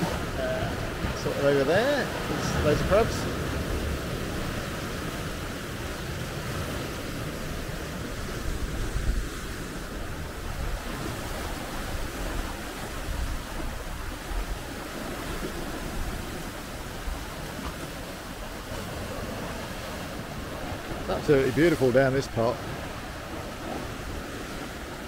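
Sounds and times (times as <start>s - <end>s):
surf breaking over rocks: 0.0s - 25.0s.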